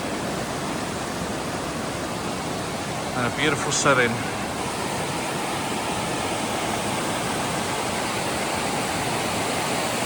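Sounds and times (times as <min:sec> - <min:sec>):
stream water rushing over rocks: 0:00.0 - 0:10.0.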